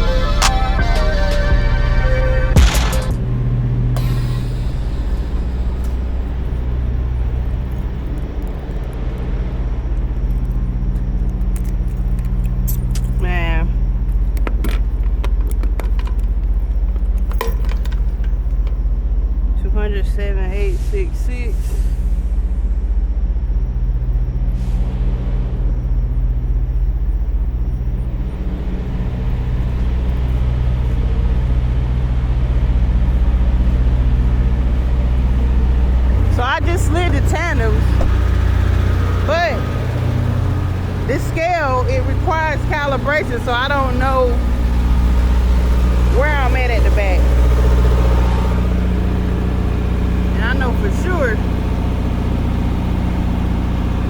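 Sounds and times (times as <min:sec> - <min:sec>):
diesel truck engine humming: 0:00.0 - 0:54.0.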